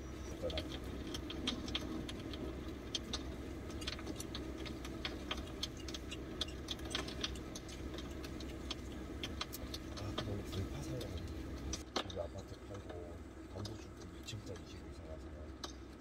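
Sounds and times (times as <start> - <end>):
light clicks and ticks: 0.0 - 16.0
steady low hum: 0.0 - 16.0.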